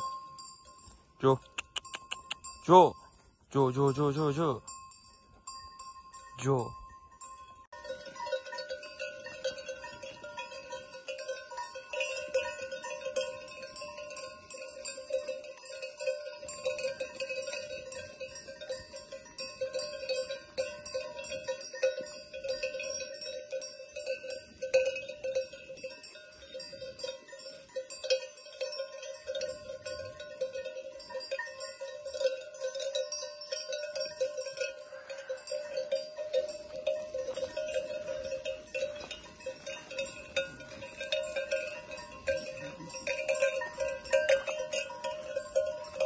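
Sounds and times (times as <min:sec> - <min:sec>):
sheep bells clanking: 0:00.0 - 0:46.0.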